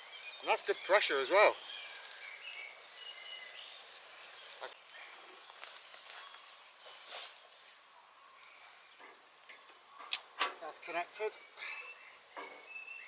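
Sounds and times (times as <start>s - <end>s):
bird chirps: 0.0s - 13.0s
insect trill: 0.0s - 13.0s.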